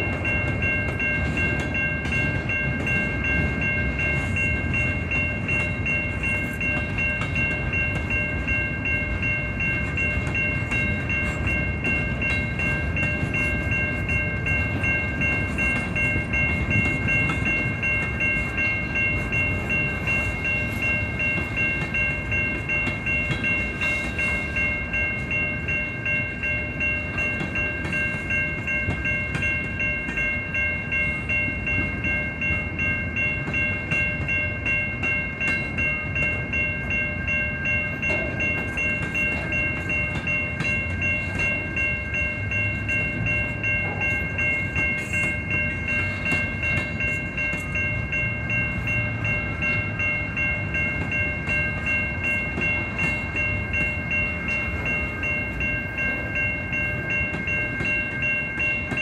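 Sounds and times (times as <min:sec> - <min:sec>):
train cars rolling on rails: 0:00.0 - 0:59.0
warning bell ringing: 0:00.0 - 0:59.0.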